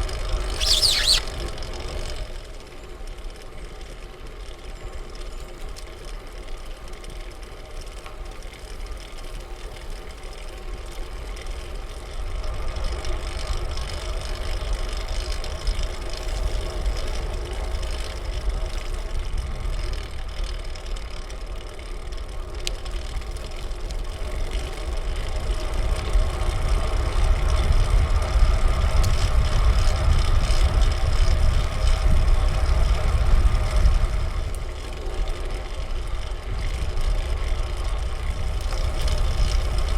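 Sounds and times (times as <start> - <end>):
bicycle road and drivetrain hum: 0.0 - 39.9.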